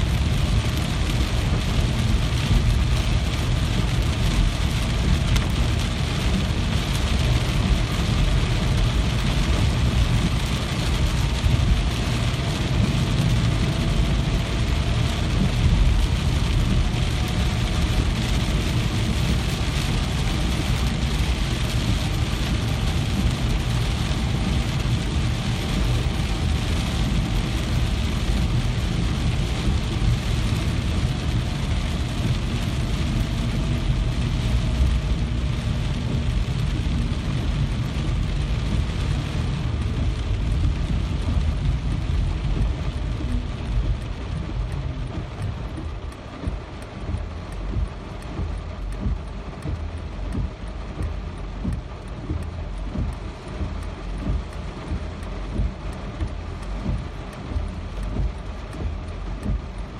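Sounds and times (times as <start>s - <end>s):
deep low rumble: 0.0s - 59.9s
steady rain hiss: 0.0s - 59.9s.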